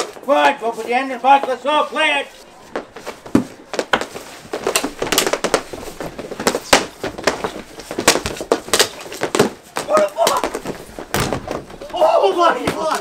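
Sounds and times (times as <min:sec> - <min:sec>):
hockey sticks clacking: 0:00.0 - 0:13.0.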